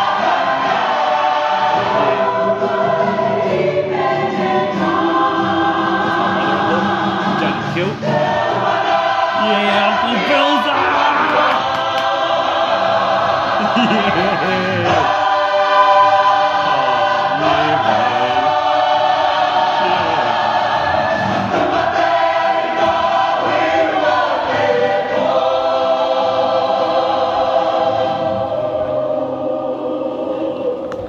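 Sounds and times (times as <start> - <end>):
group of voices singing: 0.0 - 31.0.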